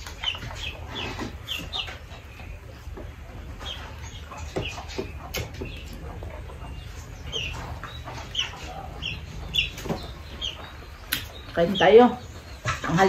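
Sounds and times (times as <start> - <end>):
people eating off plates: 0.0 - 11.5
chickens clucking: 0.0 - 13.0.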